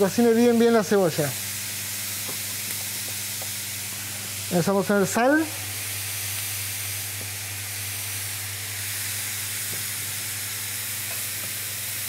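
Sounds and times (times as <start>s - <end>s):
onion sizzling in oil: 0.0s - 12.0s
steady low hum: 0.0s - 12.0s.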